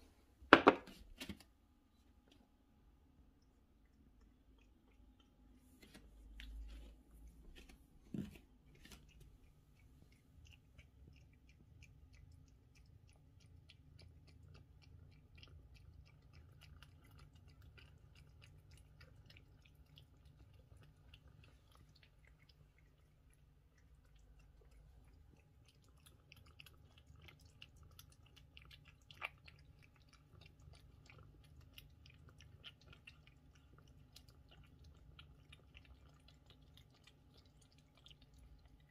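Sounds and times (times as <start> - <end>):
cat chewing wet food: 2.2 - 38.9.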